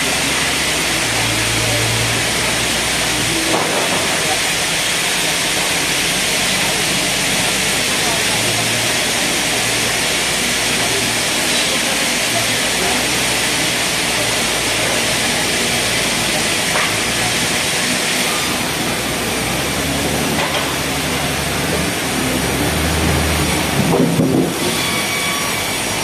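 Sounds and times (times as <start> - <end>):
sawmill machinery hiss: 0.0 - 26.0.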